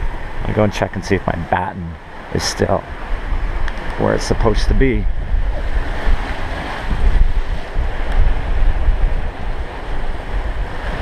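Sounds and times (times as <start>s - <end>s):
rough seas: 0.0s - 11.0s
rush of wind: 0.0s - 11.0s
wind buffeting microphone: 0.0s - 11.0s.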